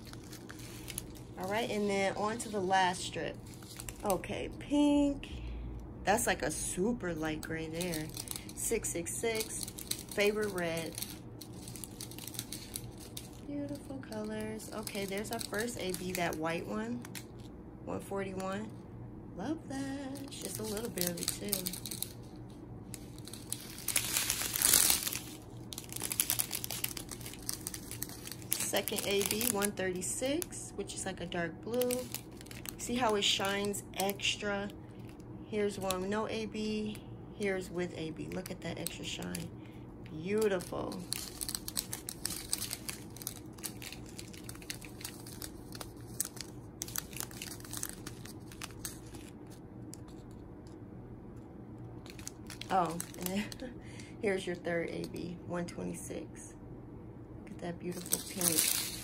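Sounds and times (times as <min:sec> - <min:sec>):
plastic bags crinkling: 0:00.0 - 0:04.5, 0:06.6 - 0:17.5, 0:20.0 - 0:50.3, 0:52.0 - 0:54.0, 0:57.9 - 0:59.0
steady low hum: 0:00.0 - 0:59.0.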